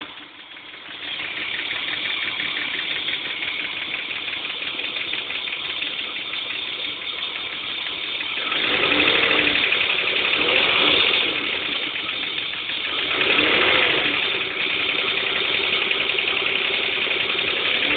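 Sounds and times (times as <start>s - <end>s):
car engine running: 0.0s - 17.9s
fast even engine clicking: 0.1s - 17.9s.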